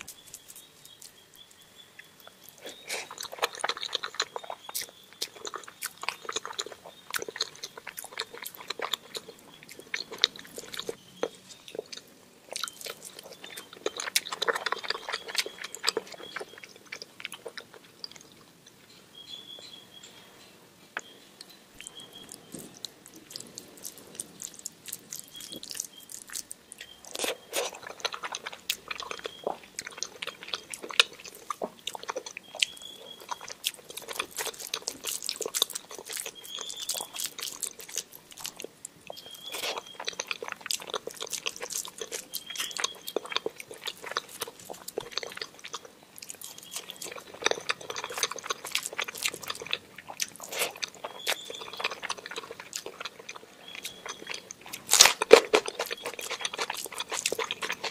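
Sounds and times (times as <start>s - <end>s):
chewing with wet mouth clicks: 0.0s - 18.8s, 21.0s - 57.9s.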